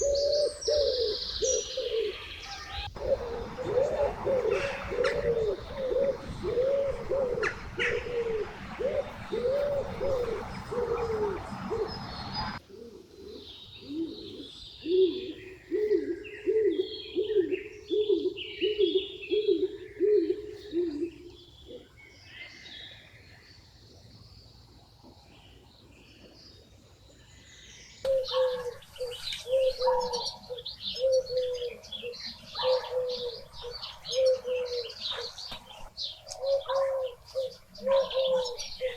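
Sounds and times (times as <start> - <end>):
small birds chirping: 0.0 - 12.6, 13.2 - 38.9
bird cooing: 0.0 - 22.0, 28.0 - 38.9.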